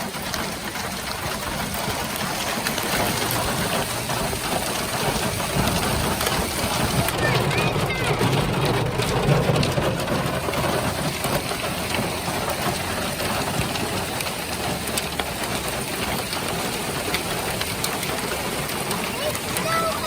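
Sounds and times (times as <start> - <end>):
hailstones clicking: 0.0 - 20.0
heavy rain hissing: 0.0 - 20.0.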